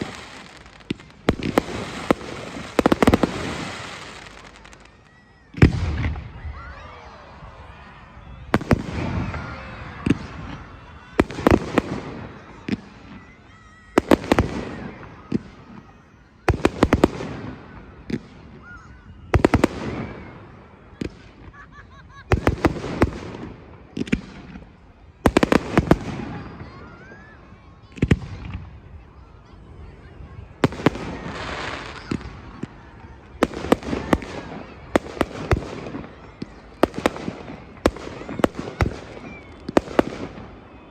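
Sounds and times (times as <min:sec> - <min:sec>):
fireworks bursting bangs: 0:00.0 - 0:06.6, 0:08.4 - 0:18.6, 0:19.2 - 0:21.5, 0:22.2 - 0:28.8, 0:30.4 - 0:40.9
fireworks crackling: 0:00.0 - 0:40.9
rumble of fireworks: 0:00.0 - 0:40.9.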